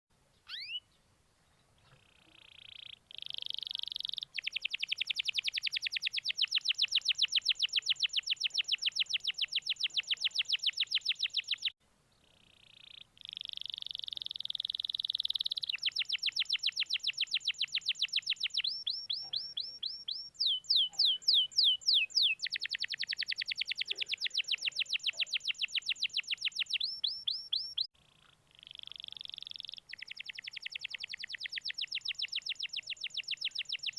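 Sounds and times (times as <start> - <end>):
canary singing trills: 0.3 - 33.9.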